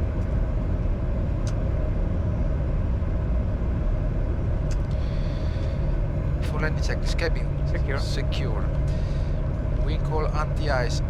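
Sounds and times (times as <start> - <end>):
airflow and jet engine rumble: 0.0 - 11.0.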